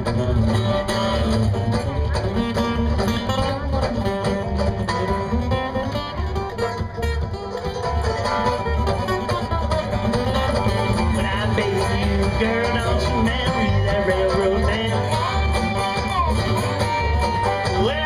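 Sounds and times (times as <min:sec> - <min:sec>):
plucked string notes: 0:00.0 - 0:18.0
pulsing bass line: 0:00.0 - 0:18.0.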